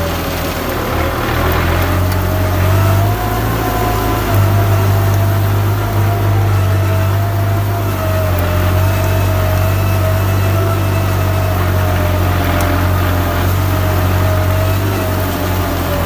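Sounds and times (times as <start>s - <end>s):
tractor diesel engine drone: 0.0s - 16.0s.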